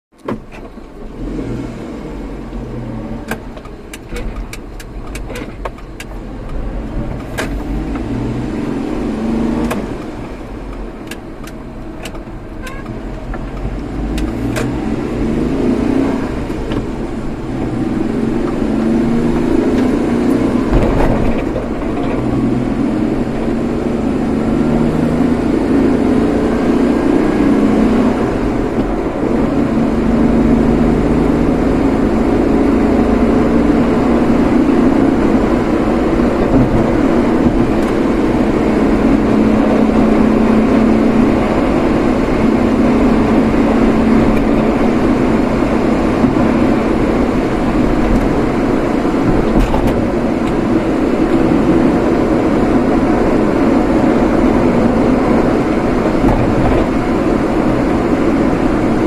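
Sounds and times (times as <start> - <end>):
car road rumble and engine: 0.1 - 59.0.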